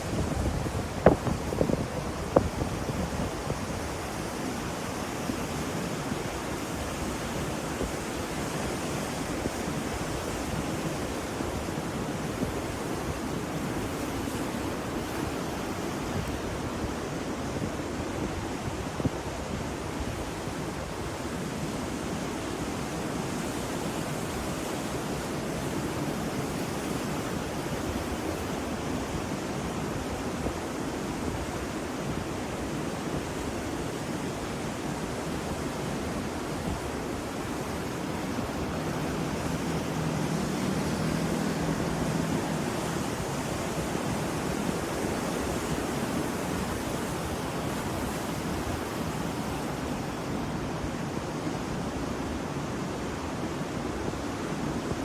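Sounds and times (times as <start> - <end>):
ocean surf washing: 0.0 - 55.0.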